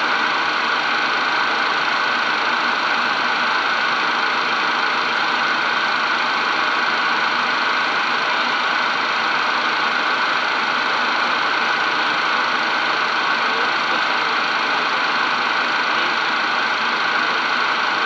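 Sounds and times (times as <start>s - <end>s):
jet cockpit engine rush: 0.0s - 18.0s.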